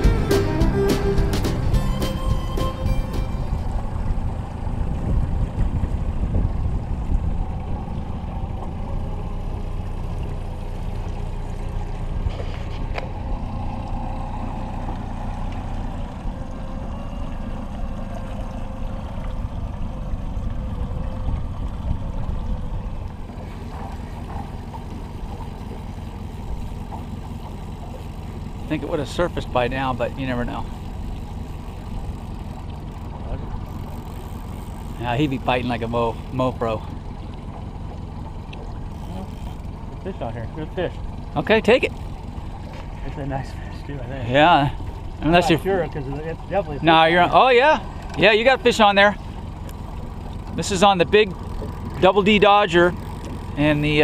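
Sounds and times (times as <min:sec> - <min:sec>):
hull moving through water: 0:00.0 - 0:54.0
outboard motor running: 0:00.0 - 0:54.0.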